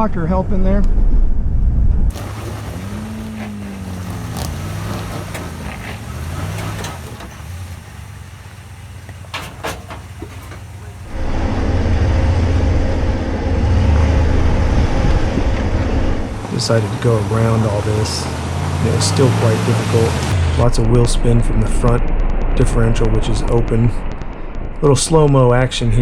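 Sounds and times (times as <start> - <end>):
off-road engine revving: 2.1 - 24.2
tires spinning in dirt and mud: 2.1 - 26.0.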